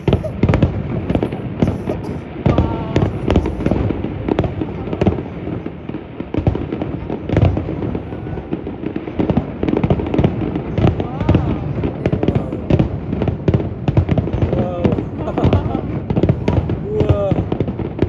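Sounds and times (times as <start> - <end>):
fireworks booming: 0.0 - 18.0.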